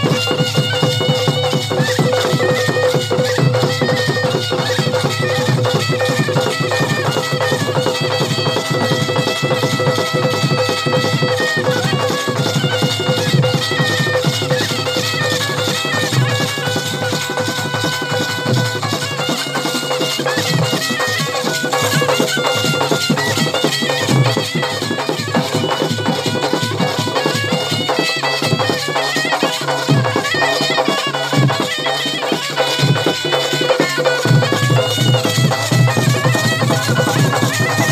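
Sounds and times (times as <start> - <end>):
drums beating: 0.0 - 37.9
reed pipe melody: 0.0 - 37.9.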